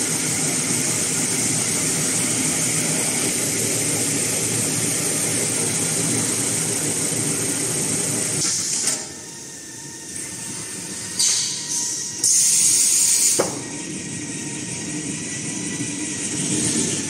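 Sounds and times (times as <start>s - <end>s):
machine whirring and hissing: 0.0s - 17.0s.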